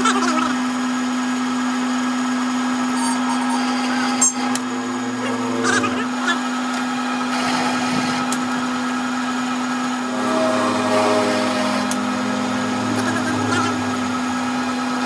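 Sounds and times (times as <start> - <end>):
electric motor humming: 0.0 - 15.0
low machine sound: 0.0 - 15.0.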